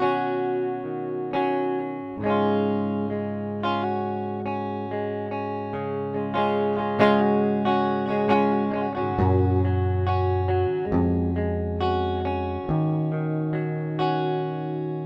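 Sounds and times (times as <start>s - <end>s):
electric guitar strummed chords: 0.0s - 15.0s.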